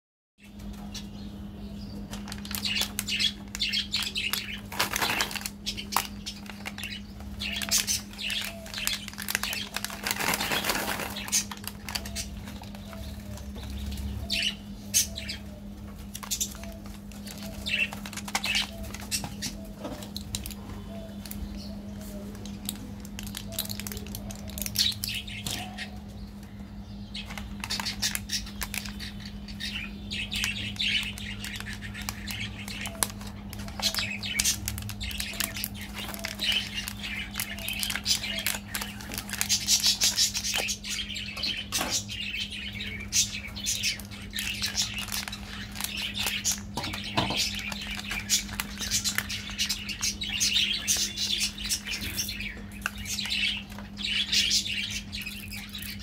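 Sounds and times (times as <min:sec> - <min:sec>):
foil wrapper crinkling: 0:02.1 - 0:14.5, 0:15.9 - 0:25.3, 0:27.2 - 0:41.0, 0:42.9 - 0:56.0.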